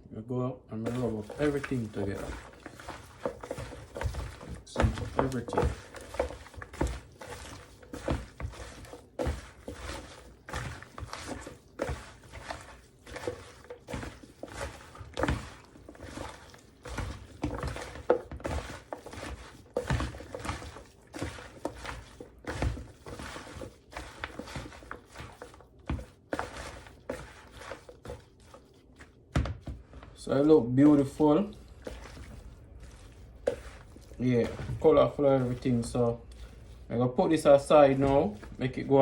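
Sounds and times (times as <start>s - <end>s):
hands mixing food in a bowl: 0.0s - 39.0s.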